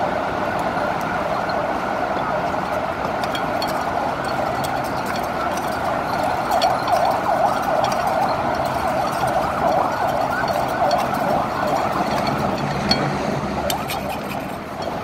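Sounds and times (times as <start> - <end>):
emergency siren yelping: 0.0 - 14.0
street traffic noise: 0.0 - 15.0.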